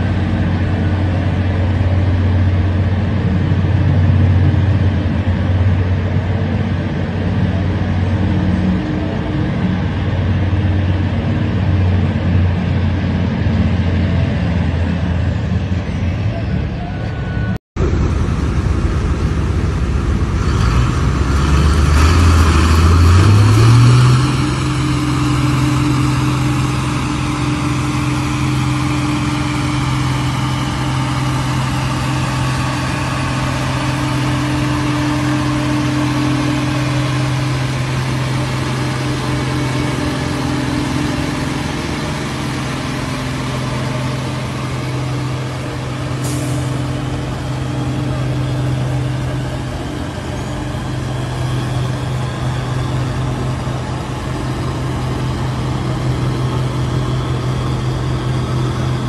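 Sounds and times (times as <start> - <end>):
diesel tractor engine revving: 0.0 - 59.0.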